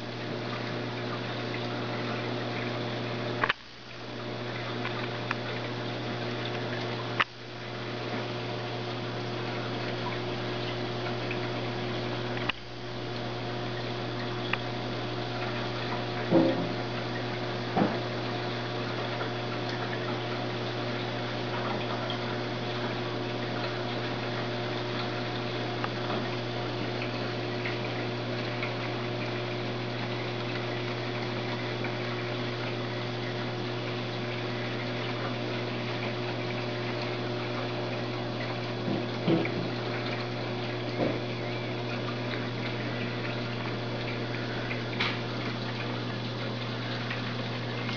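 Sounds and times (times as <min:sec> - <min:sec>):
aquarium pump hum: 0:00.0 - 0:47.9.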